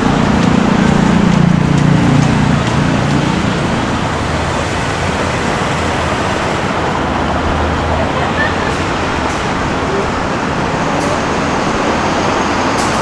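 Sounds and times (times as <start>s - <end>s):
low engine hum: 0.0s - 13.0s
passing cars: 0.0s - 13.0s.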